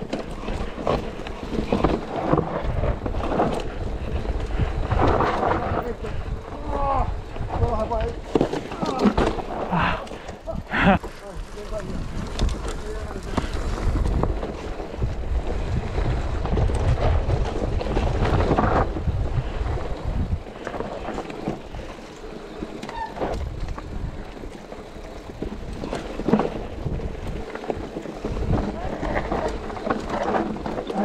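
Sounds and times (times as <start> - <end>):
wind on microphone: 0.0 - 21.9, 25.2 - 31.0
bike rattles and clicks: 0.0 - 31.0
mountain bike tyre rumble: 0.0 - 31.0.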